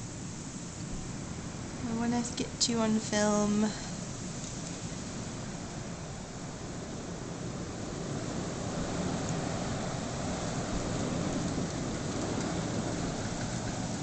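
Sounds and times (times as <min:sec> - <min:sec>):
blizzard wind roaring: 0:00.0 - 0:14.0.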